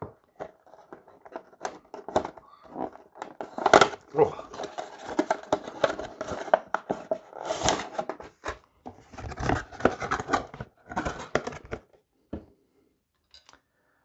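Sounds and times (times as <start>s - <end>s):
cardboard and plastic rustling: 0.0s - 12.0s.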